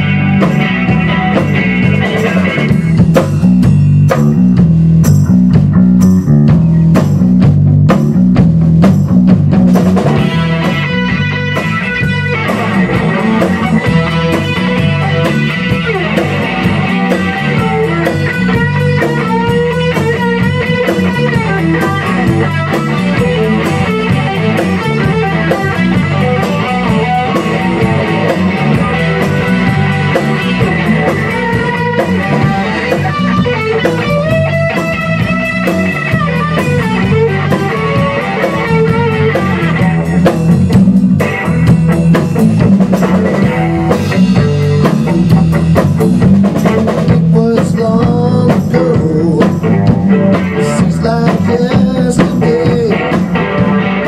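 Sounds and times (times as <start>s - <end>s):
drum kit: 0.0s - 54.0s
electric bass: 0.0s - 54.0s
electric guitar: 0.0s - 54.0s.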